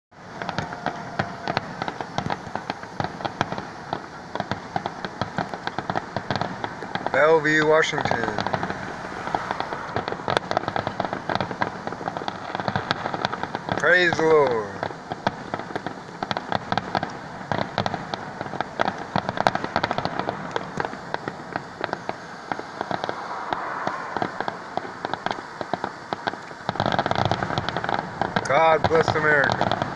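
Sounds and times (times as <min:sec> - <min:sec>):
aerial fireworks bangs and pops: 0:00.1 - 0:29.9.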